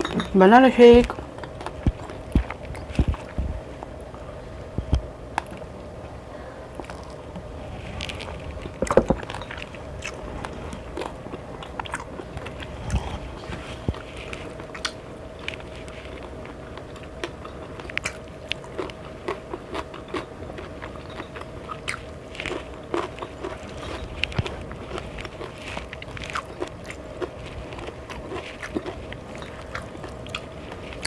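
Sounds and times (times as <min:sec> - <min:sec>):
faint steady hum: 0:00.0 - 0:31.0
person chewing crunchy food: 0:01.0 - 0:04.1, 0:06.7 - 0:31.0.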